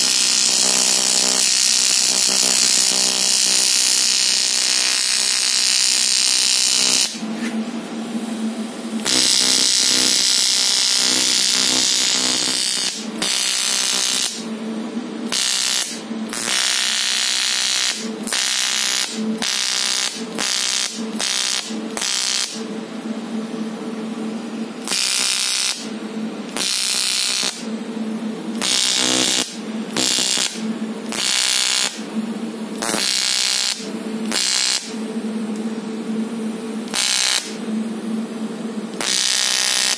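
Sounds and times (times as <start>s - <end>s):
welding arc buzzing and hissing: 0.0s - 39.9s.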